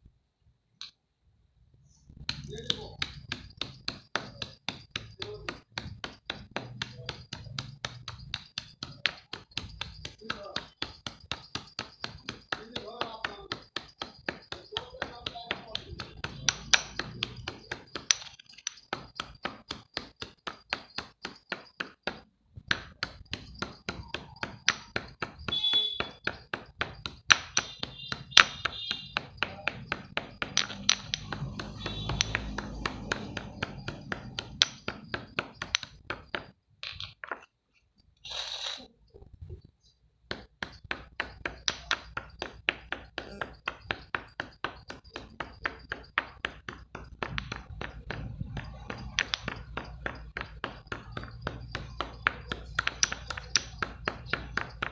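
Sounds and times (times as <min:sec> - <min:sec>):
utensil beating in mixing bowl: 0:02.2 - 0:36.5, 0:40.3 - 0:54.9.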